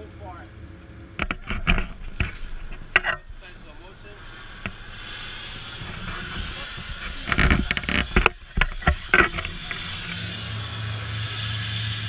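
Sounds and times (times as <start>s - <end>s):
gas cutting torch hissing: 2.0s - 12.0s.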